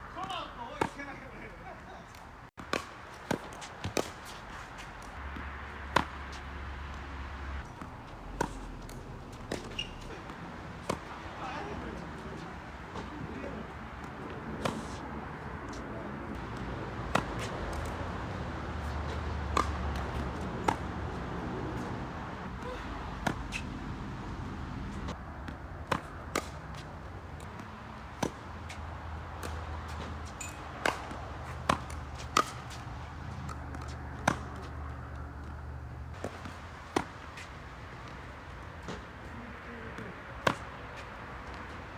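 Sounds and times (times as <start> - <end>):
racket hitting tennis balls: 0.1 - 41.9.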